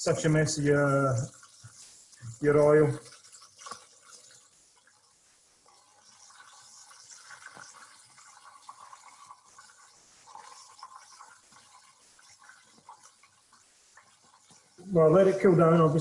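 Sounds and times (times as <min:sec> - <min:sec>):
chicken sizzling in hot oil: 0:00.6 - 0:14.9.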